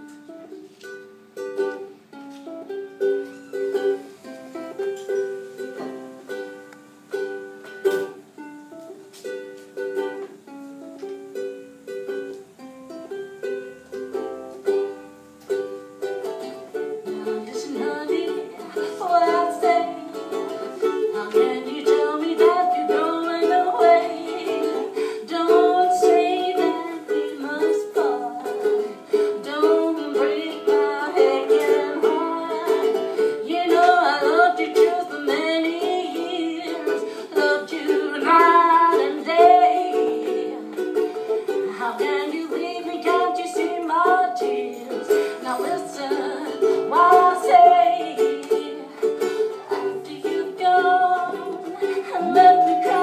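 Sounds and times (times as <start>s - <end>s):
solo ukulele: 0.0s - 53.0s.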